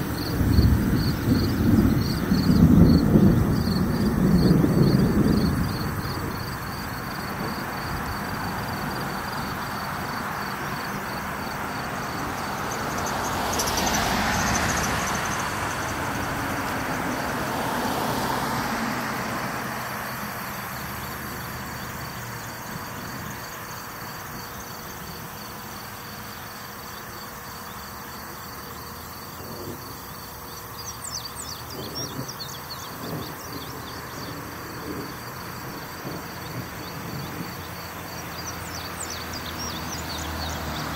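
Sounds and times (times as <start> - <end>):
cars passing: 0.0 - 40.9
crickets chirring: 0.0 - 40.9.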